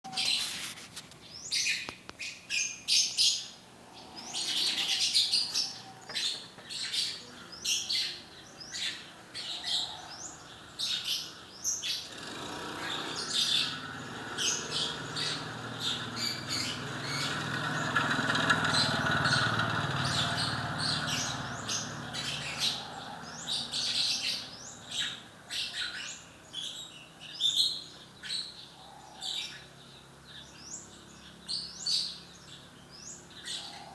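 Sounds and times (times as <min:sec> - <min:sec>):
lovebird chirping: 0:01.3 - 0:18.0, 0:20.0 - 0:33.9.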